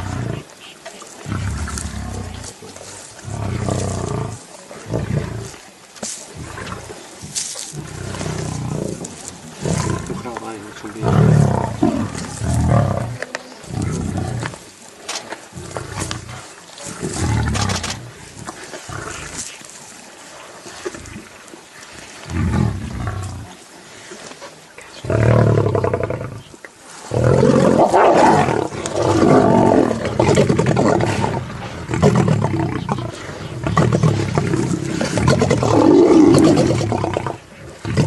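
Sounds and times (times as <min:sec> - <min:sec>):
lions growling and snarling: 0:00.0 - 0:05.7, 0:06.3 - 0:19.6, 0:22.1 - 0:23.6, 0:24.9 - 0:38.0.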